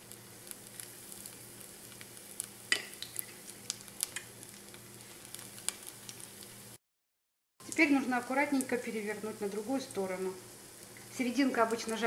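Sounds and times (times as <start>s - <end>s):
batter sizzling in hot oil: 0.0s - 6.8s, 7.6s - 12.0s.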